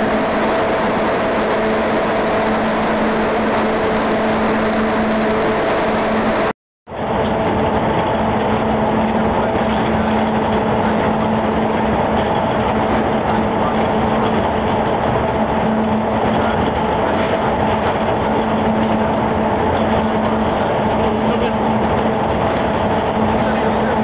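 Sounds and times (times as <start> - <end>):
industrial machinery hum: 0.0 - 24.0.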